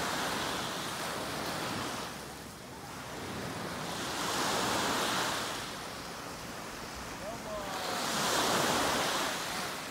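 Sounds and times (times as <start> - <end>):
waves washing onto a pebble shore: 0.0 - 2.2, 2.9 - 9.9.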